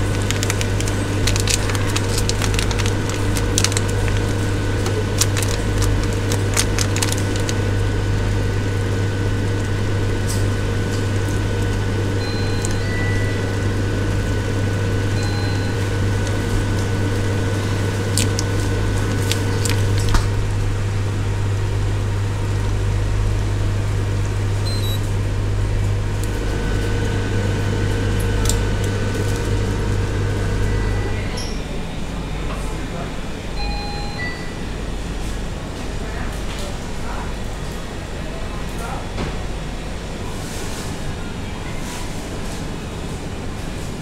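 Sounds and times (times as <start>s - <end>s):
cooker electrical hum: 0.0s - 44.0s.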